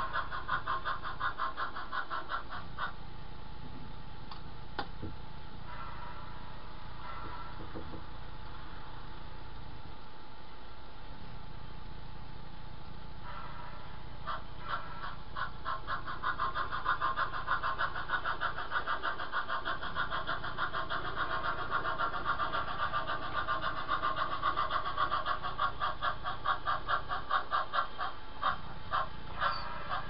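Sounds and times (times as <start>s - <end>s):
model steam locomotive chuffing: 0.0s - 4.7s, 5.4s - 9.8s, 12.7s - 30.0s.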